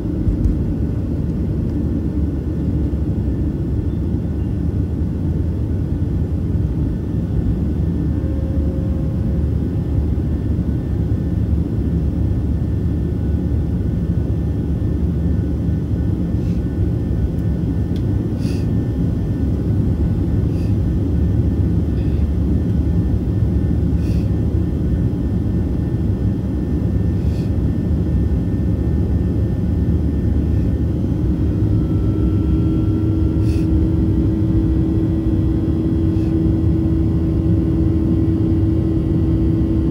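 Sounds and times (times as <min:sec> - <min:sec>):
airplane cabin low rumble: 0:00.0 - 0:39.9
steady hum: 0:00.0 - 0:39.9.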